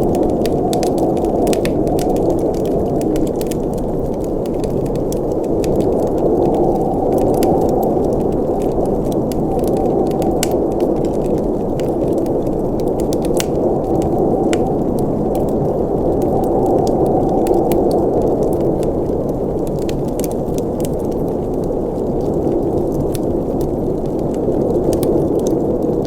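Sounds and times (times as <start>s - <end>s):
burning wood crackling: 0.0s - 26.0s
fire flames rushing: 0.0s - 26.0s.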